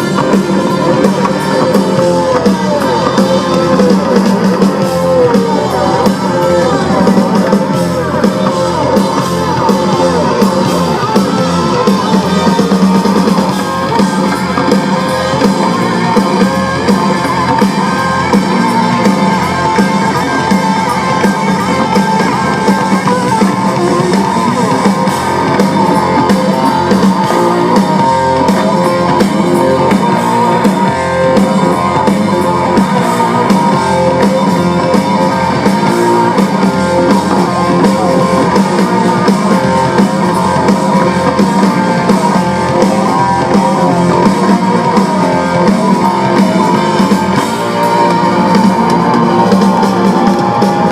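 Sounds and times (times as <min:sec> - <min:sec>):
blues-rock band playing: 0:00.0 - 0:50.9
electric guitar: 0:00.0 - 0:50.9.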